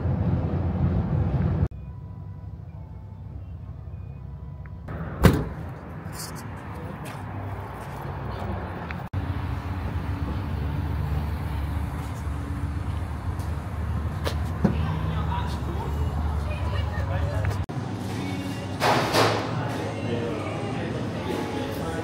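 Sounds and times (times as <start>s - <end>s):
low vehicle rumble: 0.0s - 18.8s.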